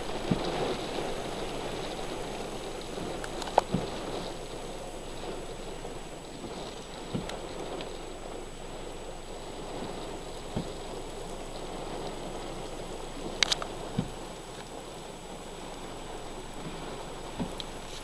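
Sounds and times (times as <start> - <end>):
gusty wind: 0.0 - 18.0
heavy rain pouring: 0.0 - 18.0.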